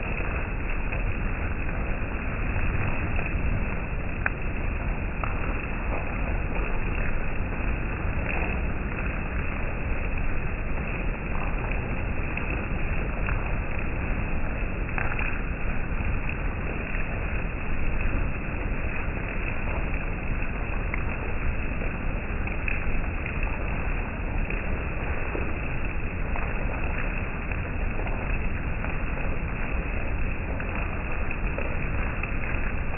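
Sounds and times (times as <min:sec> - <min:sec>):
single raindrop ticks: 0:00.0 - 0:32.9
steady rain falling: 0:00.0 - 0:32.9.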